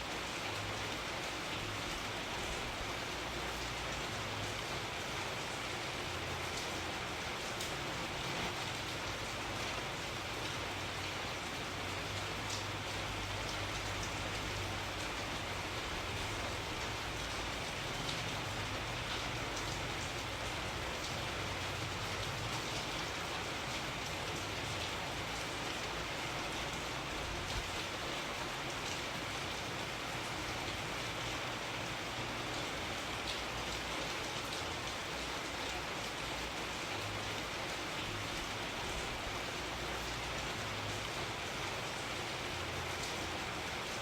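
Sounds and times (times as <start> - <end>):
rain hiss: 0.0 - 44.0.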